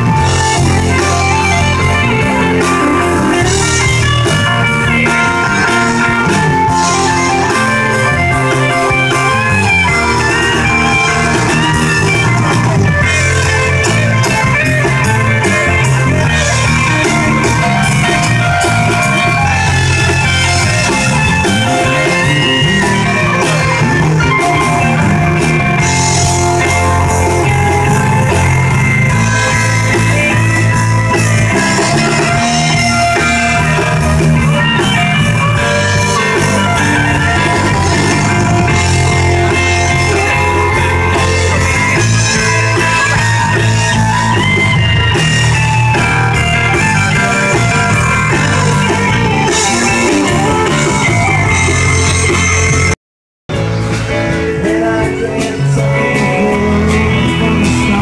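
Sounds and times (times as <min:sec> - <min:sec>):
bass: 0:00.0 - 0:58.0
live rock band playing: 0:00.0 - 0:58.0.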